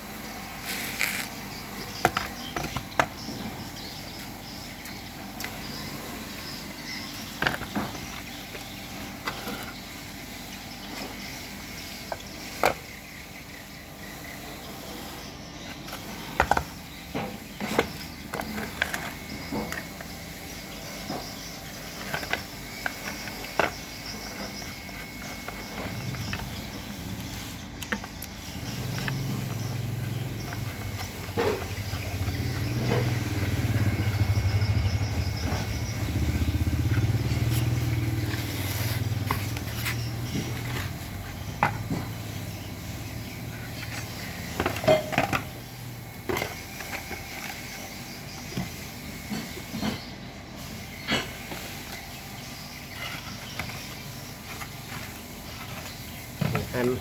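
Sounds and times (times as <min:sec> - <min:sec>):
small engine low hum: 0:00.0 - 0:57.0.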